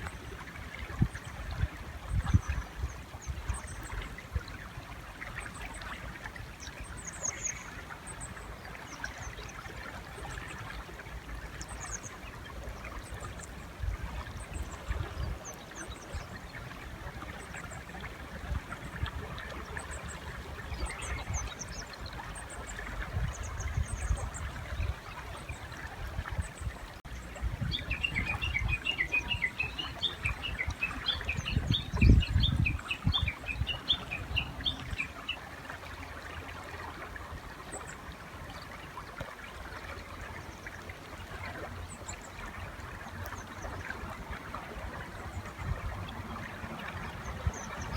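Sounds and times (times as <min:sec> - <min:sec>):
river water running: 0:00.0 - 0:47.9.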